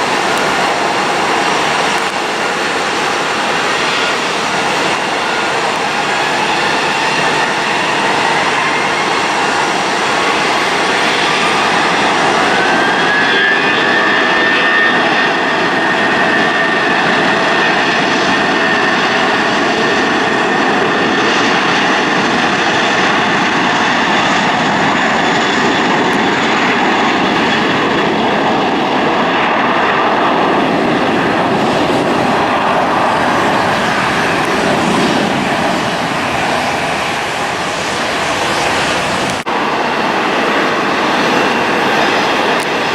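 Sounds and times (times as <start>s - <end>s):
high engine whine: 0.0s - 42.9s
jet engines running: 0.0s - 42.9s.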